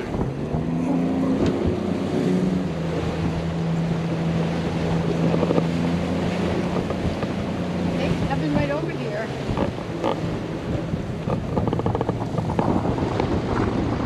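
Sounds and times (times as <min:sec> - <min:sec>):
motorboat engine humming: 0:00.0 - 0:14.0
water rushing past hull: 0:00.0 - 0:14.0
wind buffeting microphone: 0:00.0 - 0:14.0.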